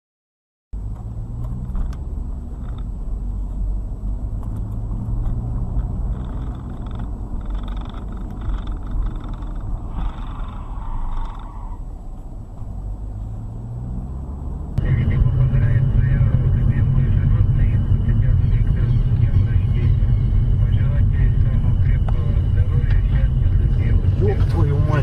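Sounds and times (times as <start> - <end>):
car engine and road hum: 0.8 - 25.0.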